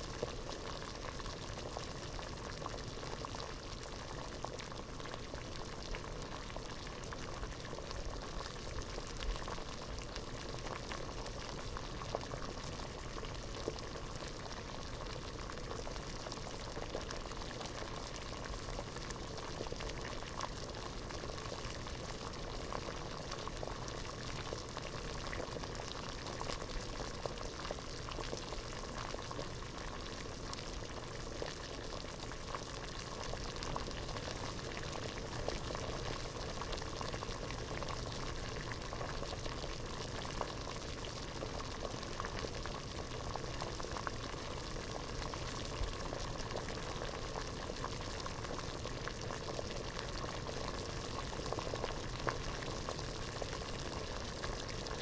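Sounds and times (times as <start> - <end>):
water boiling in a pot: 0.0 - 55.0.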